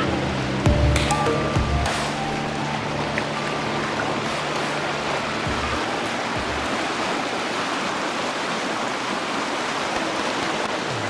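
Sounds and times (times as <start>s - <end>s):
shallow water rushing: 0.0s - 11.0s.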